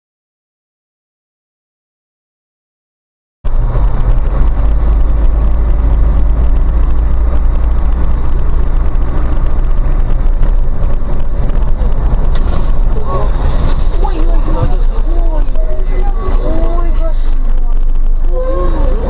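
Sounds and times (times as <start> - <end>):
car engine and road noise: 3.4 - 19.0.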